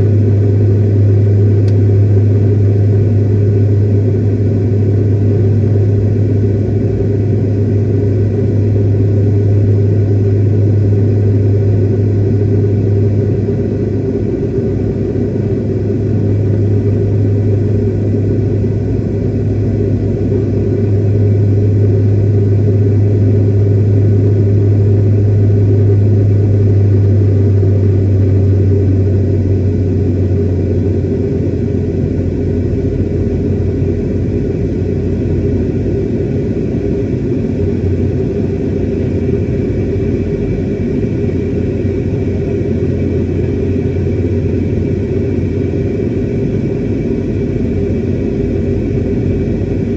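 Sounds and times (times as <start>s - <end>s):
deep hum: 0.0s - 49.9s
jet engines droning: 0.0s - 49.9s.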